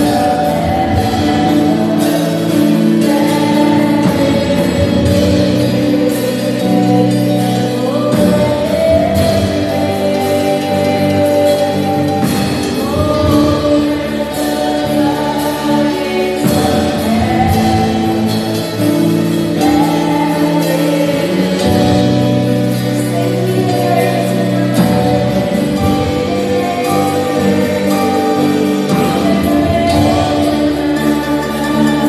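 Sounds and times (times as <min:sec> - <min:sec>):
gospel worship singing: 0:00.0 - 0:32.0
instrumental accompaniment: 0:00.0 - 0:32.0.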